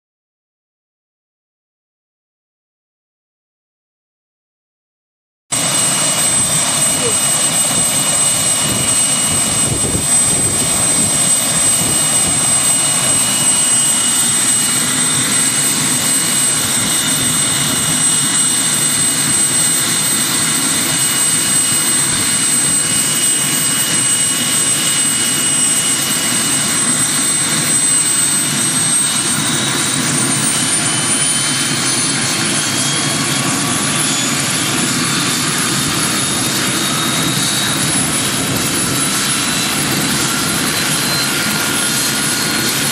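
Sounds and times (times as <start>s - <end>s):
helicopter rotor rush: 5.5s - 42.9s
helicopter turbine whine: 5.5s - 42.9s.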